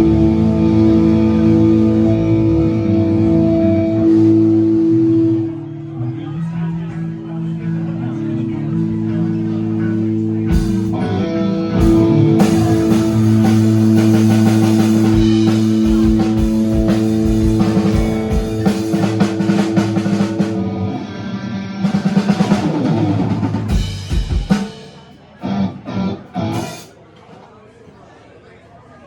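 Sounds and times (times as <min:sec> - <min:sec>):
live band playing loud: 0:00.0 - 0:05.7, 0:09.3 - 0:27.0.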